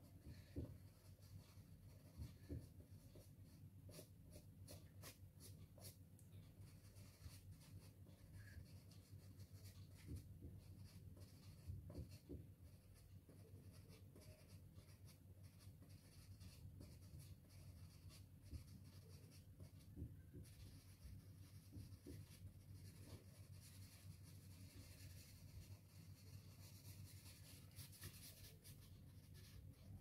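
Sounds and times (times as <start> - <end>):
pastel scratching on paper: 0.0 - 30.0.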